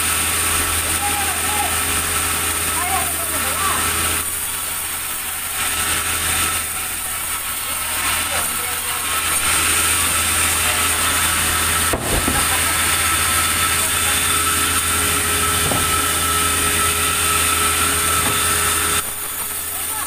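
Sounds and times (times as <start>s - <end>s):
sawmill machinery whining: 0.0s - 20.0s.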